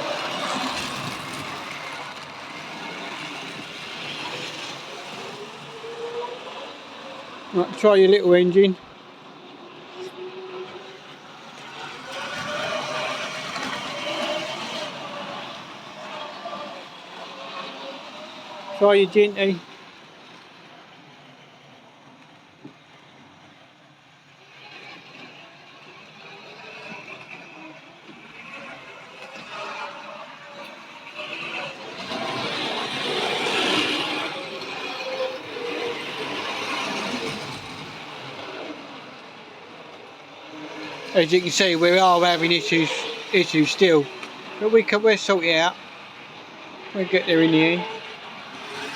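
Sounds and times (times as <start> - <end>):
model train motor whine: 0.0 - 7.8, 9.2 - 48.9.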